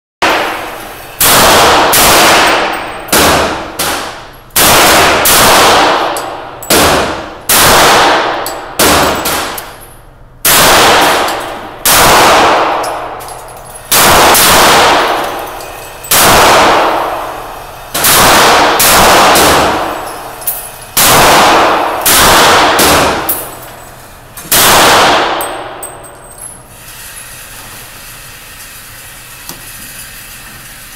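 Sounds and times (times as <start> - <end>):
pistol shots echoing indoors: 0.2 - 26.6.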